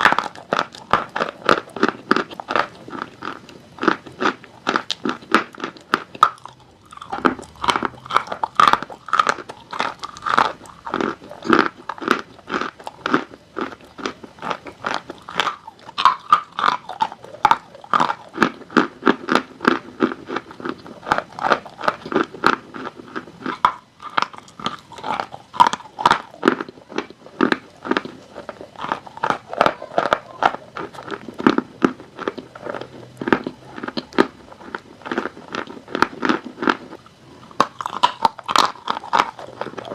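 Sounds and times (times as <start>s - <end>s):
chalk crunching being chewed: 0.0s - 39.9s.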